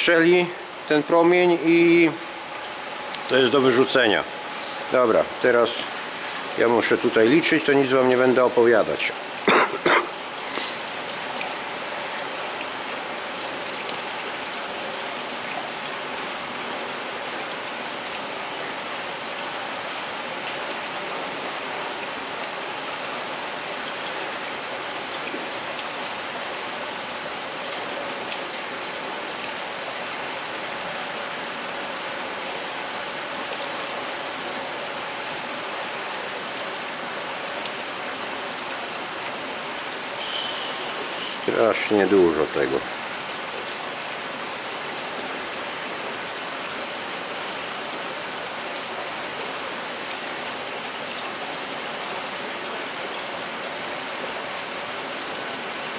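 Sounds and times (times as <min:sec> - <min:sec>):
faint steady hum: 0:00.0 - 0:55.9
rushing water: 0:00.0 - 0:55.9.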